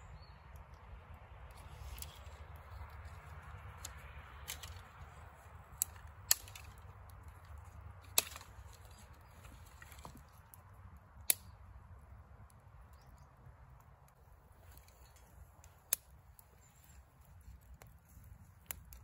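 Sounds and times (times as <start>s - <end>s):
dry branches snapping: 0.4s - 19.0s.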